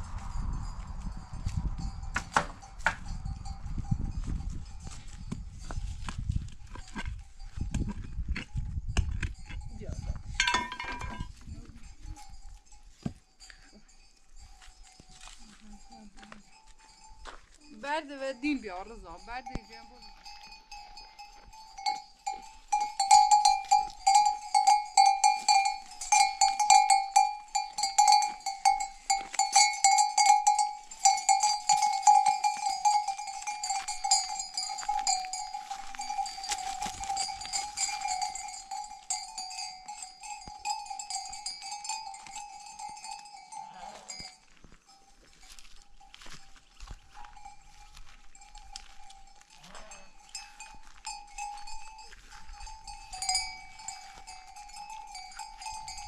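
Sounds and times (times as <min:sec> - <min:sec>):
livestock bell clanging: 0:00.0 - 0:56.0.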